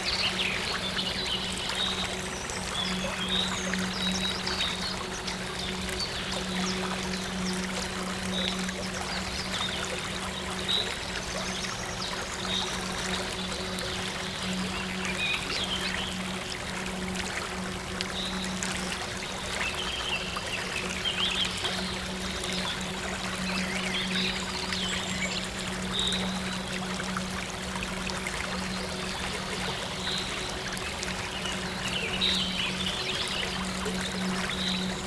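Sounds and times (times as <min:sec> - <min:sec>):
stream water trickling: 0:00.0 - 0:35.0.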